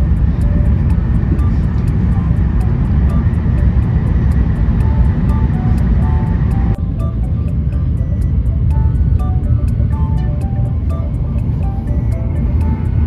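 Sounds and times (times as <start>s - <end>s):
background music with ticking beat: 0.0s - 13.0s
train cabin rumble: 0.0s - 13.0s.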